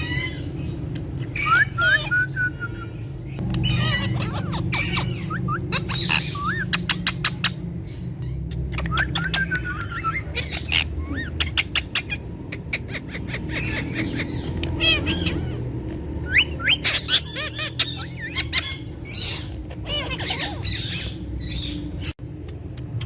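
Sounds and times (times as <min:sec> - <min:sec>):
parakeets chirping and squawking: 0:00.0 - 0:22.2
steady low hum: 0:00.0 - 0:23.0.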